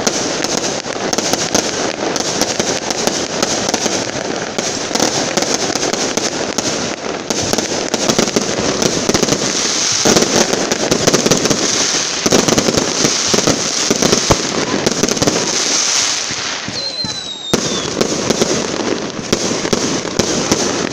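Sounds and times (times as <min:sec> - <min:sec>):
fireworks crackling bangs: 0:00.0 - 0:20.9.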